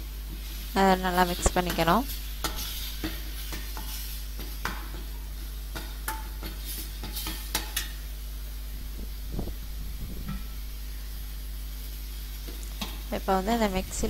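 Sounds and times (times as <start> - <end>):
paste sizzling in oil: 0.0 - 14.0.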